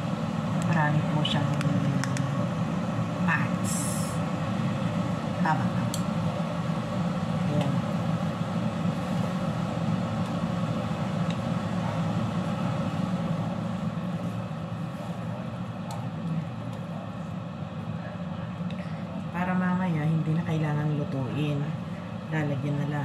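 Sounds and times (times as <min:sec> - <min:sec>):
water boiling: 0:00.0 - 0:18.7
stove hum and rush: 0:00.0 - 0:23.0.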